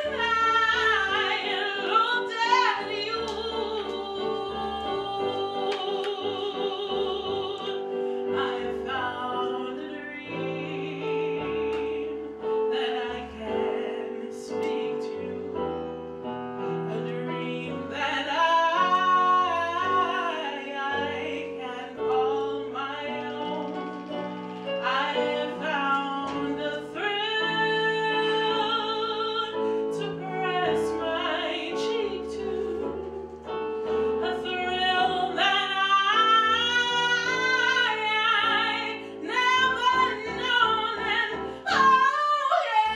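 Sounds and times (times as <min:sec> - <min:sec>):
woman singing into microphone: 0:00.0 - 0:15.7, 0:16.7 - 0:42.9
instrumental accompaniment: 0:00.0 - 0:42.9.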